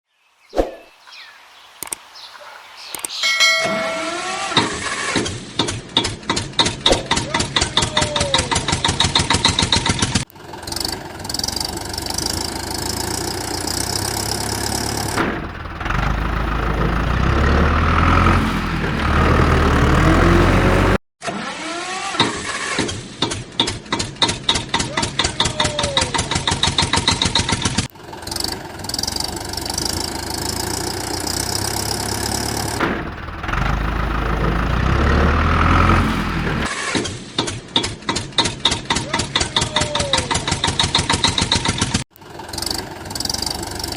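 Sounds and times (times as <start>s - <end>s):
tractor engine puttering: 3.2s - 37.0s, 38.2s - 43.9s.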